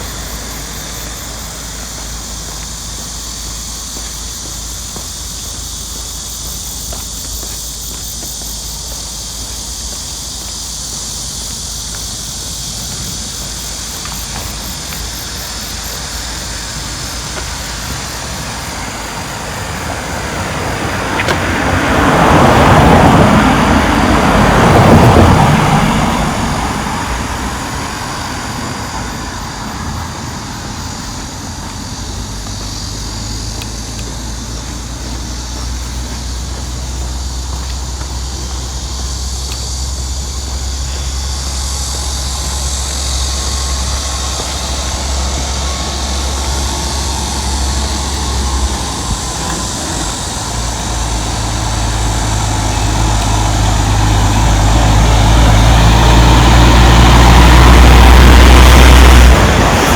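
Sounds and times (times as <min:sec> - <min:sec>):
low engine rumble: 0:00.0 - 0:59.9
vehicle passing by: 0:00.0 - 0:59.9.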